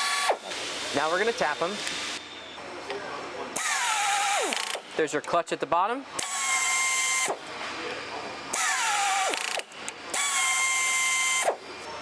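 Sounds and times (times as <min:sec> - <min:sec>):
pneumatic air motor whining: 0:00.0 - 0:02.5, 0:03.6 - 0:05.0, 0:06.2 - 0:12.0.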